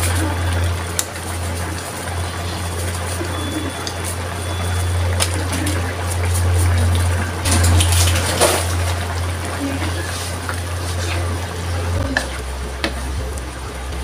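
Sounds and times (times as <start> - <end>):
steady low hum: 0.0 - 14.0
stew boiling: 0.0 - 14.0
wooden spoon stirring: 0.0 - 14.0.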